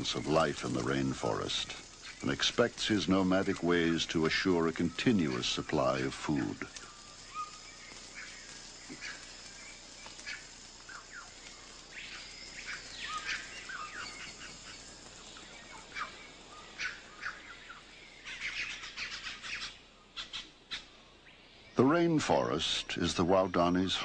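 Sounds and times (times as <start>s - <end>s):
rising and falling bird call: 0.0s - 21.8s
birds chirping and whistling: 0.0s - 22.2s
faint background hiss: 0.0s - 24.0s.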